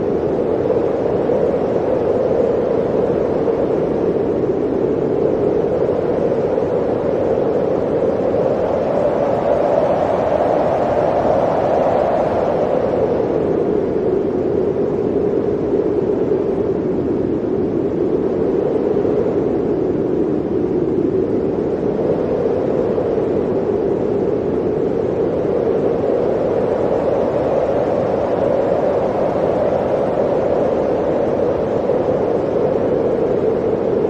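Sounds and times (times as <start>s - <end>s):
blizzard wind howling: 0.0s - 34.0s.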